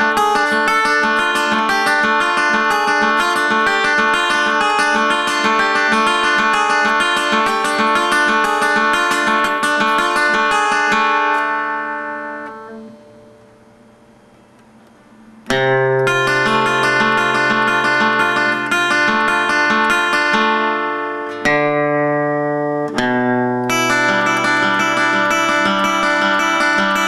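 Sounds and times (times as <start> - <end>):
plucked string notes: 0.0 - 13.9, 15.4 - 27.0.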